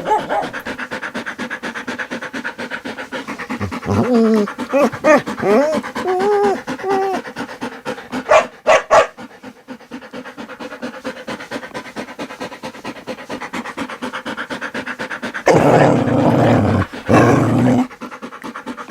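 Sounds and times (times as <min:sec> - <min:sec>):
dog panting: 0:00.0 - 0:18.9.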